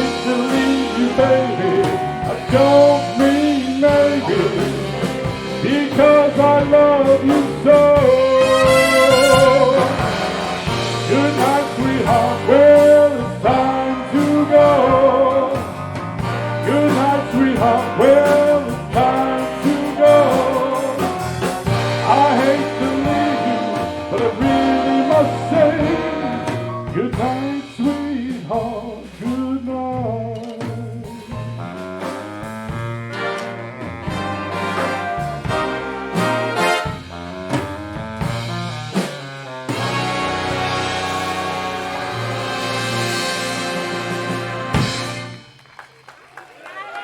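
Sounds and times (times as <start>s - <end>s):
wavering horn phrases: 0.0s - 15.6s, 16.2s - 27.6s, 31.6s - 45.6s
steady bass line: 0.0s - 45.5s.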